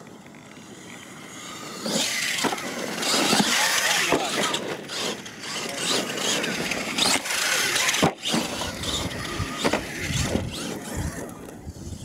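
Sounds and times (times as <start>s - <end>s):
toy truck motor whining: 0.1s - 12.0s.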